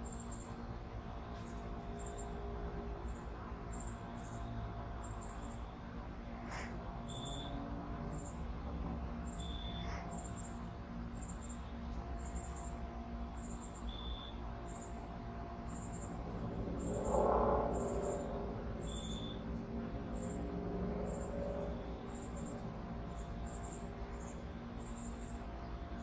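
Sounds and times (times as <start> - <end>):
crickets chirping: 0.1 - 5.9, 6.6 - 26.0.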